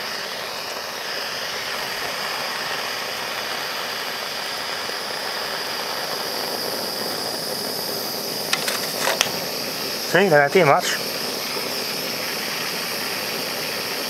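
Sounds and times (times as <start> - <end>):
hand torch hissing: 0.0 - 14.0.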